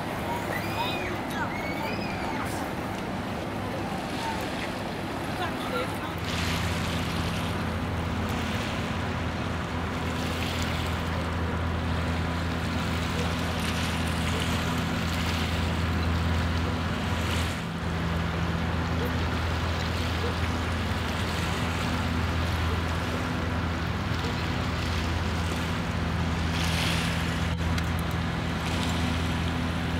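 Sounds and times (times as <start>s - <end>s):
low engine drone: 0.0s - 29.9s
wind: 0.0s - 29.9s.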